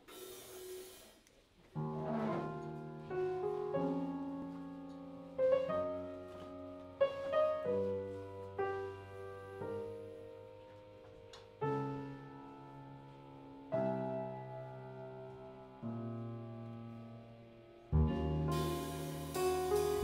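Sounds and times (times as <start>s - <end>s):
piano playing jazz chords: 1.8s - 20.0s.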